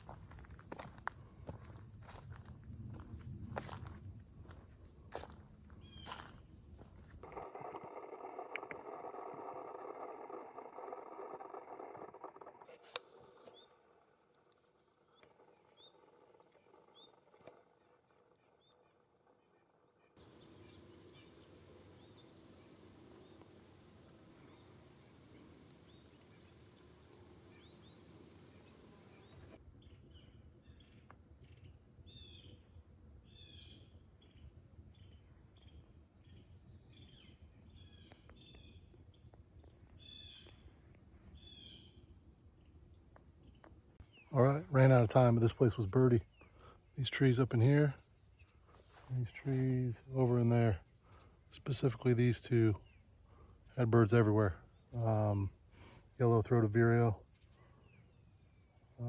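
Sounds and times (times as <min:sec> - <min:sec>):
songbirds chirping: 0:00.0 - 0:07.4, 0:12.9 - 0:31.3, 0:33.3 - 0:59.0.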